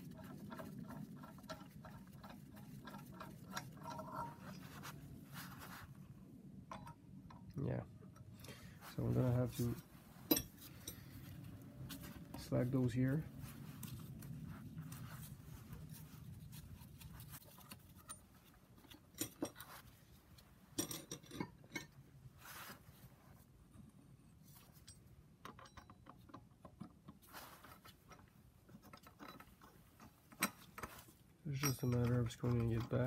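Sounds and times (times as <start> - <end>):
metal tools clicking and scraping: 0.1 - 5.8, 6.7 - 8.6, 9.4 - 22.0, 24.8 - 26.6, 27.6 - 33.0.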